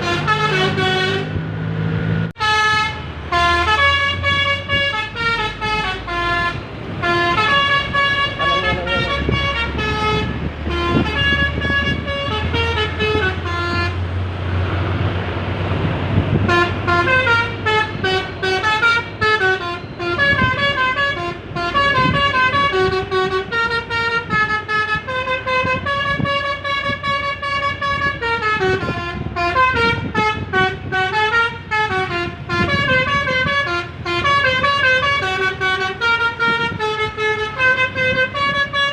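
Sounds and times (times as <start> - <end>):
bus multi-tone horn melody: 0.0 - 14.8, 16.2 - 38.9.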